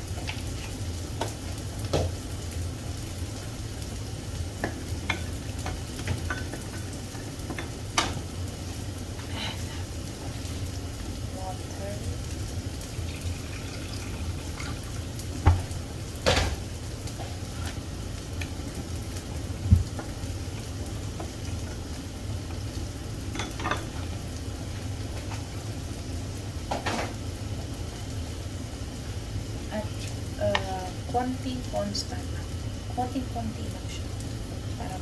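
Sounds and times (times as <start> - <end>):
fish sizzling in a frying pan: 0.0 - 35.0.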